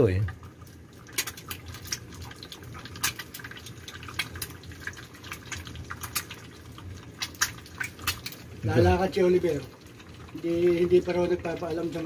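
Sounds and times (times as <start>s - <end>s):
egg sizzling in oil: 0.0s - 12.0s
oil crackling and popping: 0.0s - 12.0s.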